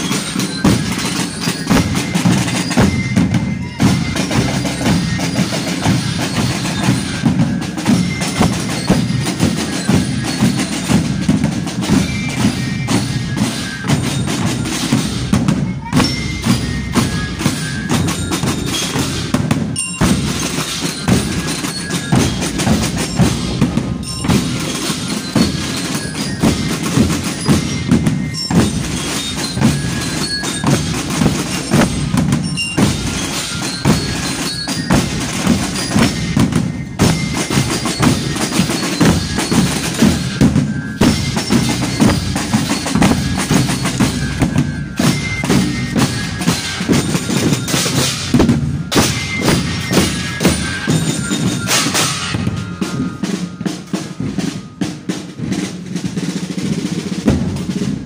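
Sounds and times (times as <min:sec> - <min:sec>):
bell lyre notes: 0:00.0 - 0:55.6
marching drums: 0:00.0 - 0:58.0.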